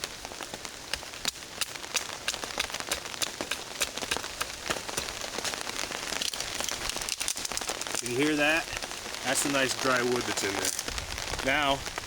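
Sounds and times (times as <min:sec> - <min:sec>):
rain pattering on a tarp: 0:00.0 - 0:12.0.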